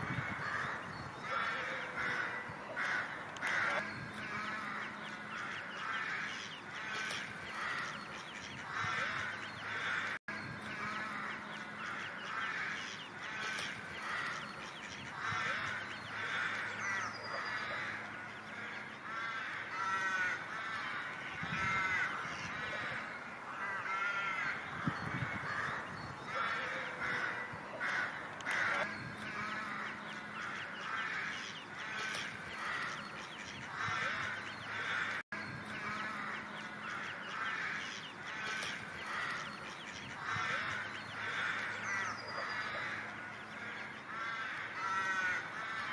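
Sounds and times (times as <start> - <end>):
ducks quacking: 0.0 - 45.9.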